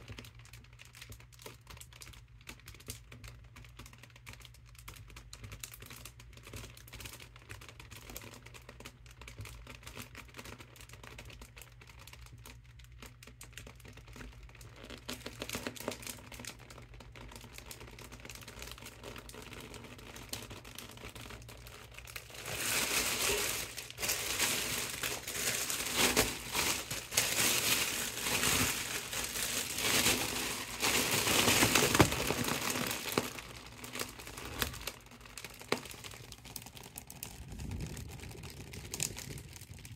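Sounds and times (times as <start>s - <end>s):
foil balloon crinkling: 0.0s - 39.9s.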